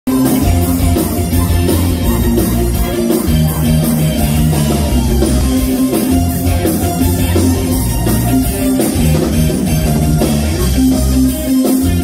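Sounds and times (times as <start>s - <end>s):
live band playing loud music: 0.0s - 12.0s
drum kit beat: 0.1s - 12.0s
sustained bass notes: 0.1s - 12.0s.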